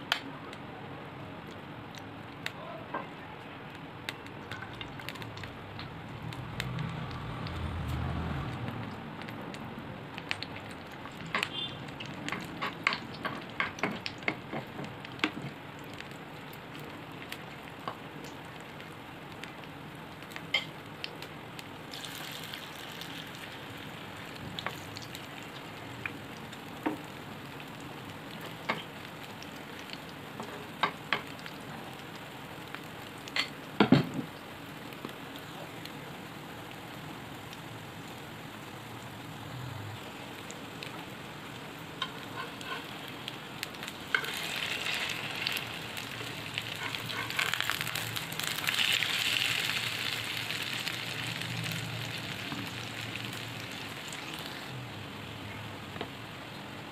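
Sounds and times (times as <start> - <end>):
batter sizzling in hot oil: 1.2 - 56.9.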